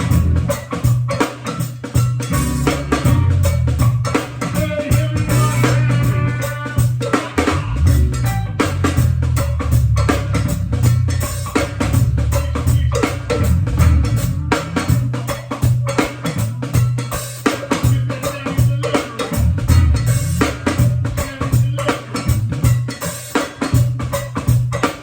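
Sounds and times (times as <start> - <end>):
heavy bass line: 0.0 - 1.1, 2.1 - 17.2, 17.8 - 23.1
band playing up-tempo groove: 0.0 - 25.0
drum kit and percussion hits: 0.0 - 25.0.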